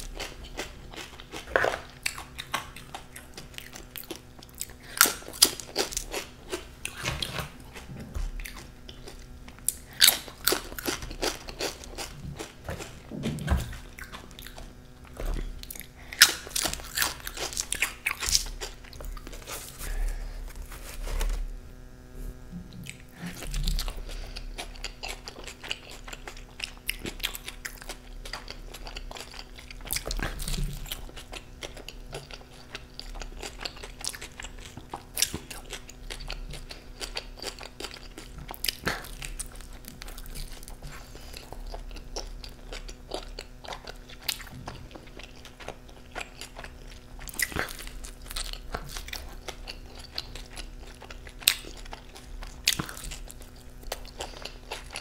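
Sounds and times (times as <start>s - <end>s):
crunchy biting and chewing: 0.0s - 55.0s.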